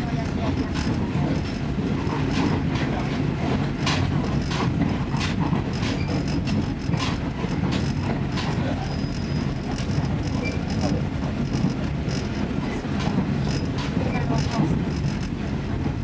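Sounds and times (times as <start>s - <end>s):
train running noise: 0.0s - 16.0s
wheels clacking over rail joints: 0.0s - 16.0s.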